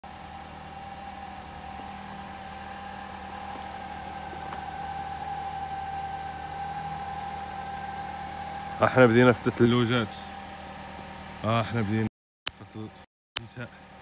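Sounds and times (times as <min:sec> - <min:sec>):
constant high whine: 0:00.0 - 0:14.0
mechanical hum: 0:00.0 - 0:14.0.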